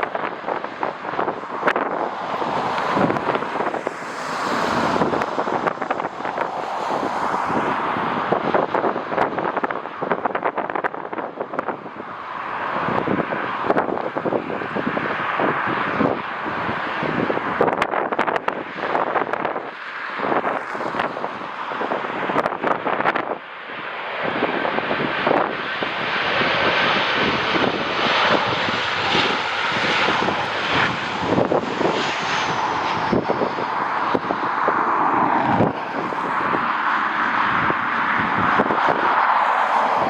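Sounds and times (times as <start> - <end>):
airliner engines roaring: 0.0 - 40.0
wind buffeting microphone: 0.0 - 40.0.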